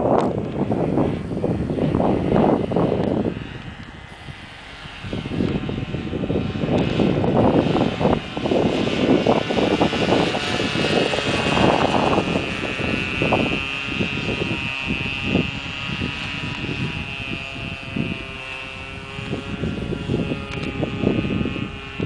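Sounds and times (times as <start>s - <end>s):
model airplane motor whining: 0.0s - 22.0s
wind buffeting microphone: 0.0s - 22.0s.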